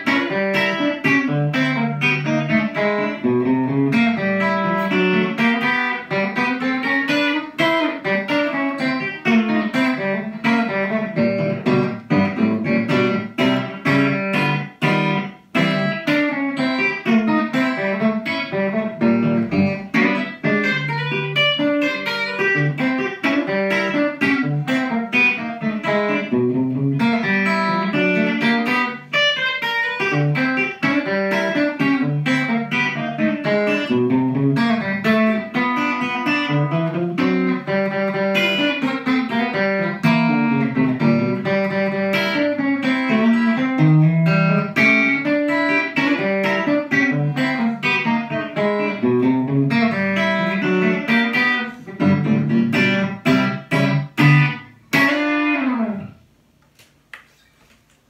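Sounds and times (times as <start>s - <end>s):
electric guitar country picking: 0.0s - 57.2s.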